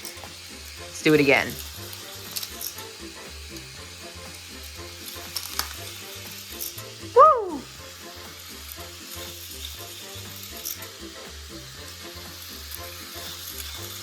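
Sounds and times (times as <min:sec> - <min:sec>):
toy roller coaster clattering: 0:00.0 - 0:07.0, 0:07.9 - 0:14.0.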